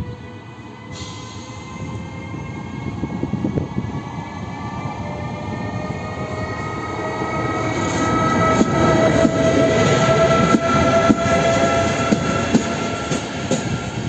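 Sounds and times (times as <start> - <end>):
electric locomotive whine: 0.0 - 14.0
wheels rumbling on rails: 1.8 - 14.0.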